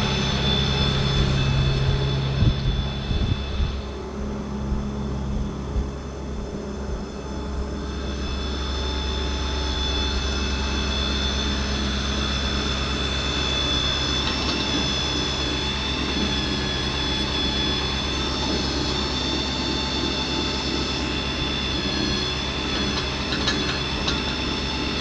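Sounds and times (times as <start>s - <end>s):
pump drone and whine: 0.0s - 25.0s.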